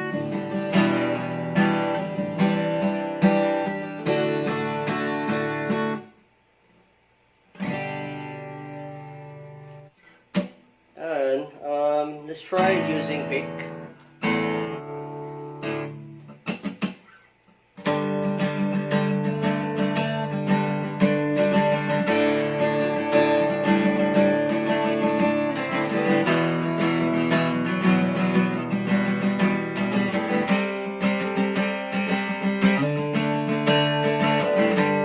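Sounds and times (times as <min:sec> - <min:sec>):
acoustic guitar chords: 0:00.0 - 0:35.0.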